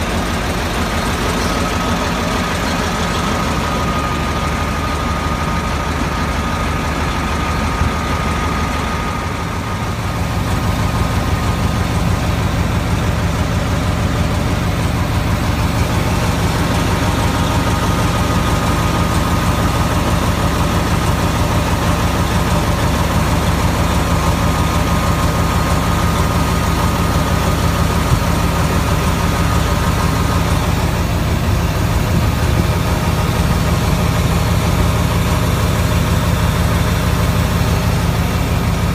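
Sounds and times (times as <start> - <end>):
heavy diesel engine idling: 0.0 - 38.9.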